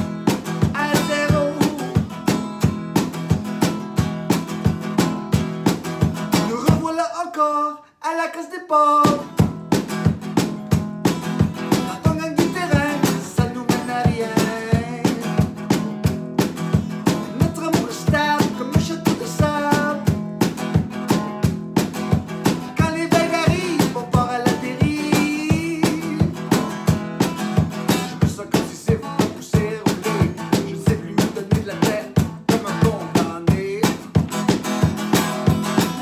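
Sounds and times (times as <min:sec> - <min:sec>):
acoustic guitar strumming: 0:00.0 - 0:07.1, 0:09.0 - 0:36.0.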